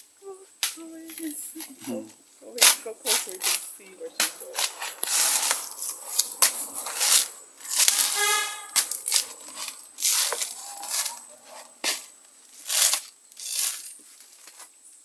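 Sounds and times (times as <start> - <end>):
coconut husk ripping: 1.6 - 14.6
sharp cracks and knocks: 2.6 - 14.7.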